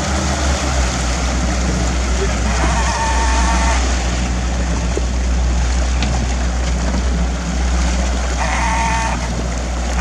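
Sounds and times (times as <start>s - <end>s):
outboard motor humming: 0.0s - 10.0s
water splashing along hull: 0.0s - 10.0s.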